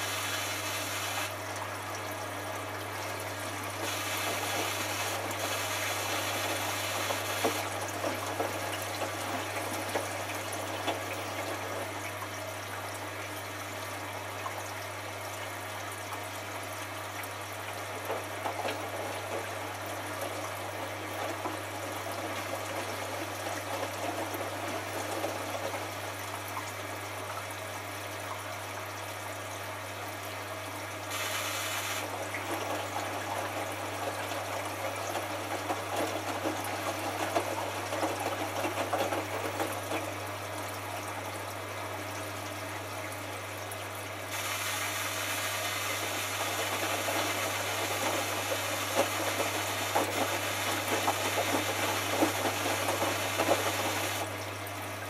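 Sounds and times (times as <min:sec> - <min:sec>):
water running into drum: 0:00.0 - 0:55.0.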